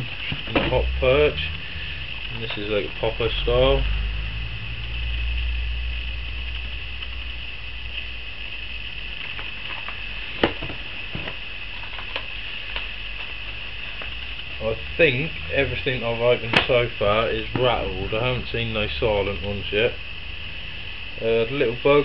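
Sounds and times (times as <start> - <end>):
room noise hiss: 0.0 - 22.0.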